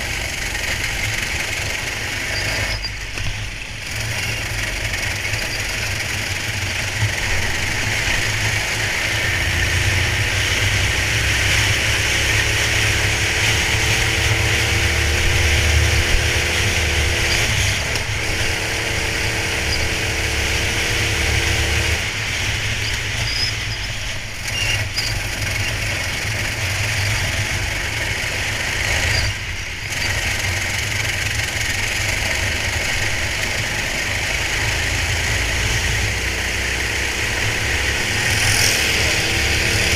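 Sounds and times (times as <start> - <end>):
go-kart engine rumble: 0.0 - 39.9.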